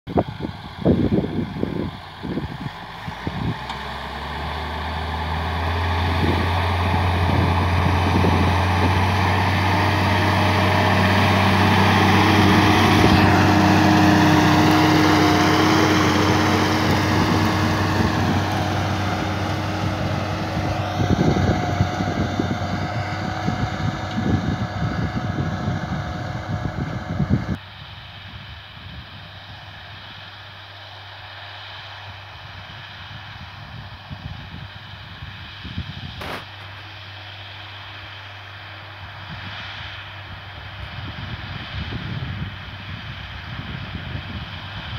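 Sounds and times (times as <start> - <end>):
tractor diesel engine: 0.1 - 44.9.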